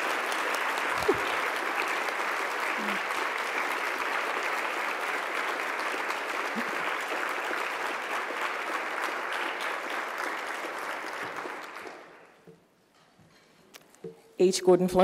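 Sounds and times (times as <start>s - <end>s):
large audience applauding: 0.0s - 12.4s.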